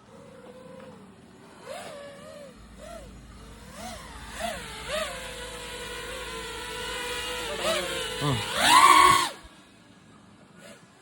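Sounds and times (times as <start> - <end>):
drone motors whining: 0.0 - 9.6.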